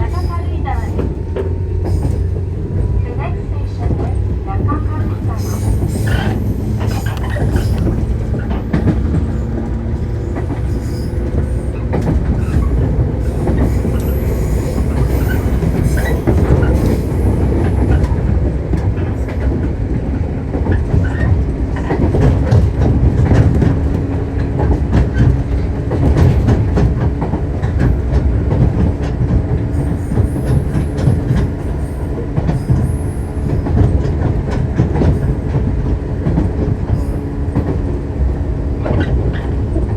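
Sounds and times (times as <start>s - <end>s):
train interior rumble: 0.0s - 39.9s
wheels clacking over rail joints: 0.1s - 39.9s.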